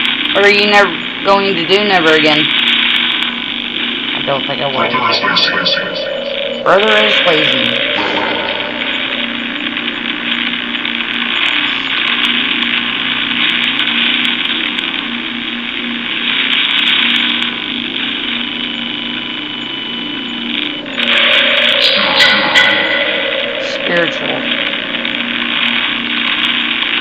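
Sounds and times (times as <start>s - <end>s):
radio static hiss: 0.0s - 27.0s.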